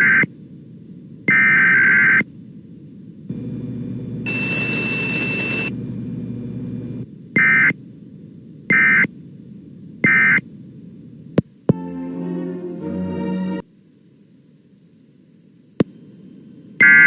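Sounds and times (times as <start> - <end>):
radio hiss: 0.0 - 11.7, 13.9 - 17.0.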